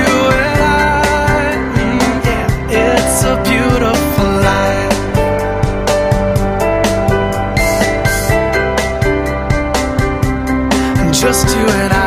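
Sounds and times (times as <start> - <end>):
country love song with guitar: 0.0 - 12.0.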